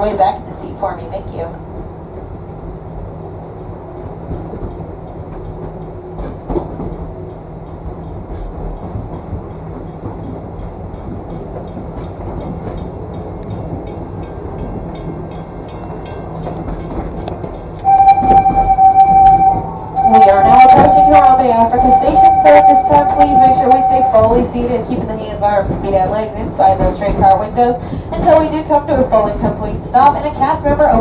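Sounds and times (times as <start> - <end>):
train rumbling on track: 0.0 - 31.0
wheels clicking on rails: 4.0 - 31.0.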